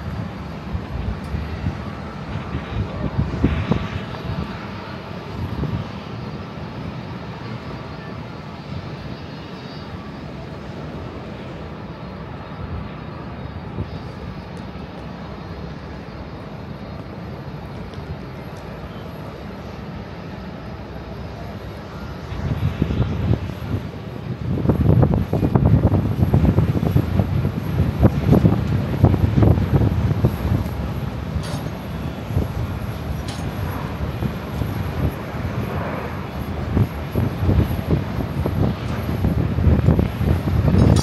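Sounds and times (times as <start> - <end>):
jet engines humming: 0.0 - 41.0.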